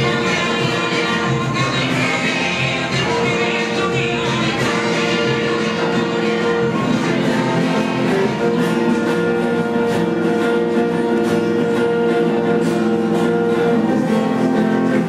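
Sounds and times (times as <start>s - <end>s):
instrumental music with plucked strings: 0.0s - 15.0s.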